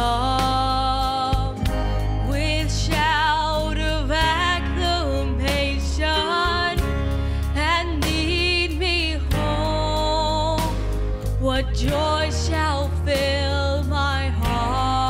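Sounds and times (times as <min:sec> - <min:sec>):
instrumental accompaniment with bass: 0:00.0 - 0:15.0
woman singing into microphone: 0:00.0 - 0:15.0.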